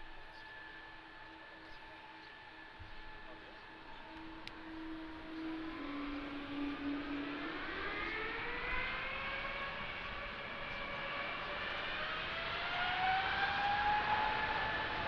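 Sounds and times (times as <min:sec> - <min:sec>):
jet engines spooling up: 0:00.0 - 0:15.0.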